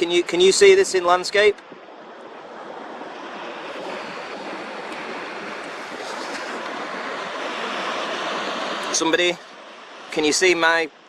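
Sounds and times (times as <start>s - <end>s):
waves washing on shore: 1.7s - 10.7s.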